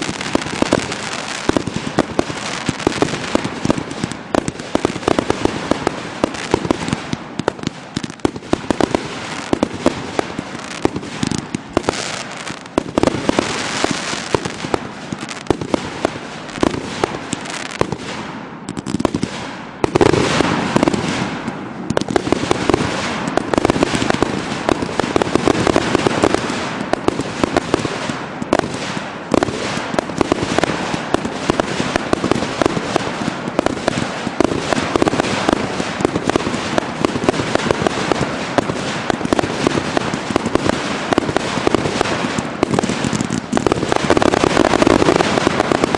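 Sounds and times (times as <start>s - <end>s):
fireworks crackle: 0.0s - 45.9s
fireworks popping and bursting: 0.0s - 45.9s.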